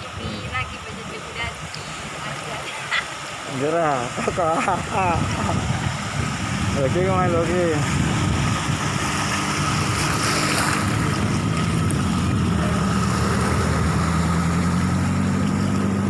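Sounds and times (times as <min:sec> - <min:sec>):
engine humming: 0:00.0 - 0:16.0
water noise: 0:00.0 - 0:16.0.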